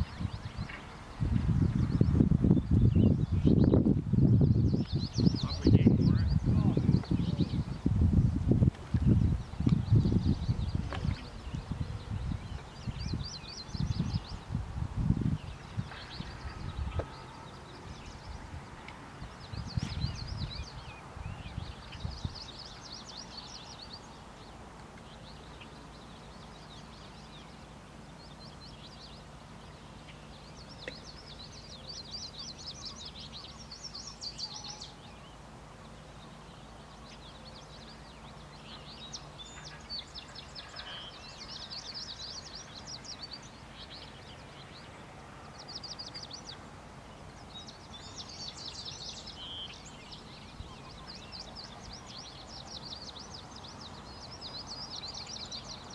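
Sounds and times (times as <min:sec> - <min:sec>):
songbirds trilling: 0:00.0 - 0:55.9.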